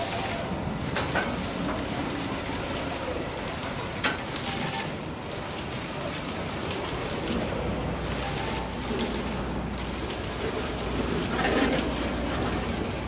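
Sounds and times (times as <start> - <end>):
steel wheels rumbling on rails: 0.0 - 13.0.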